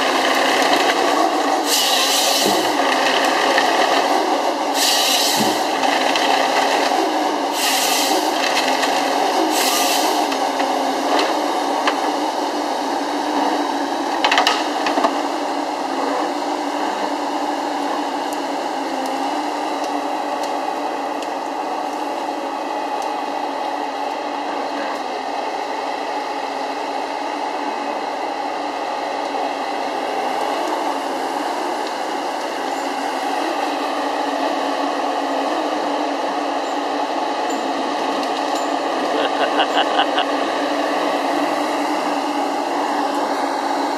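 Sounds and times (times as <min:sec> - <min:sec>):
forestry harvester engine and hydraulics: 0:00.0 - 0:43.9.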